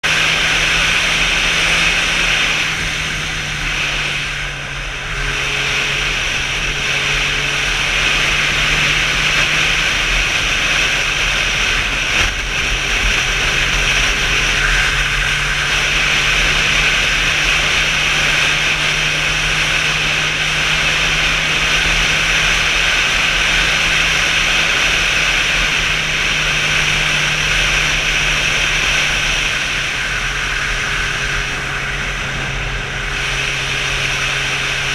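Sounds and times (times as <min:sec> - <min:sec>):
motorcycle engine running: 0:00.0 - 0:34.9
wind noise while riding: 0:00.1 - 0:34.9.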